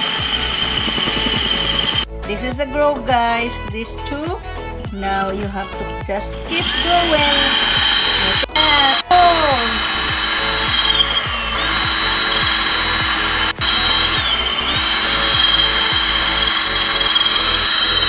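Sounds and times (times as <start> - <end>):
drill grinding into ceramic: 0.0 - 2.1, 5.2 - 18.0.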